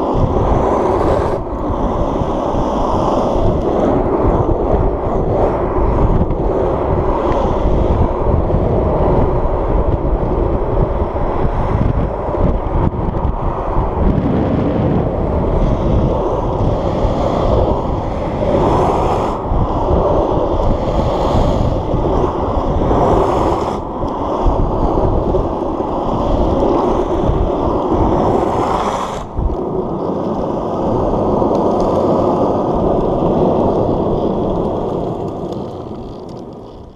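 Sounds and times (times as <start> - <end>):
longboard wheels rolling on asphalt: 0.0 - 36.9
wind buffeting microphone: 0.0 - 36.9.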